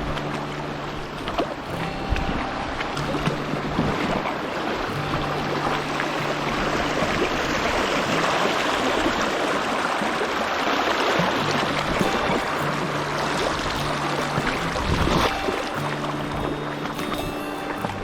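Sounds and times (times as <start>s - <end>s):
music of held low notes: 0.0s - 10.1s, 11.2s - 18.0s
stream water rushing: 0.0s - 18.0s.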